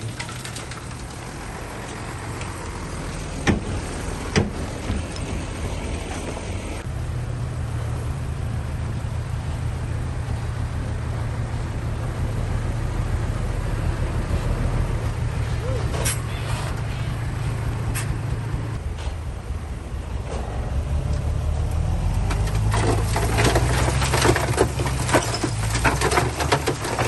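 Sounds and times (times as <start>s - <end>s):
bulldozer diesel engine: 0.0s - 27.0s.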